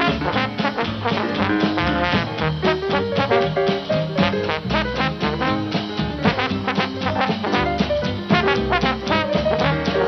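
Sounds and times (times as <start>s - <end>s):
jazz band playing: 0.0s - 10.0s.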